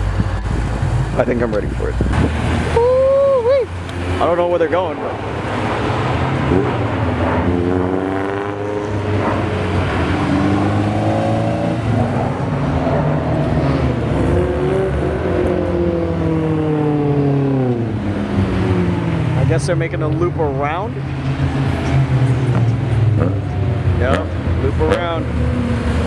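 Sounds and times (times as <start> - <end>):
cars driving slowly past: 0.0 - 26.0.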